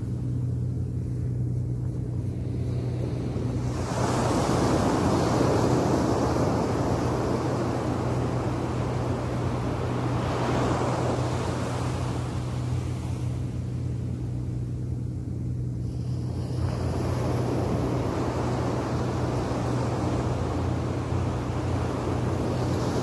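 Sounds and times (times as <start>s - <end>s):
low hum: 0.0s - 23.0s
wind rumble on microphone: 0.0s - 23.0s
small waves washing up beach: 2.3s - 13.8s, 15.8s - 23.0s.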